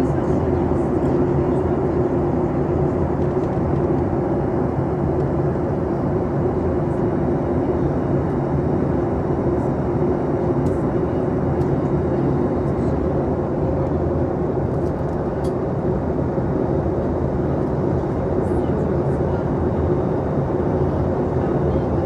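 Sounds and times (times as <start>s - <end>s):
aircraft cabin drone: 0.0s - 22.0s.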